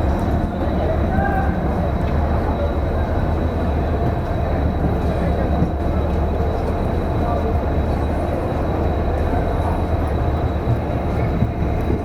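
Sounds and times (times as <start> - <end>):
passenger train rolling past: 0.0 - 12.0.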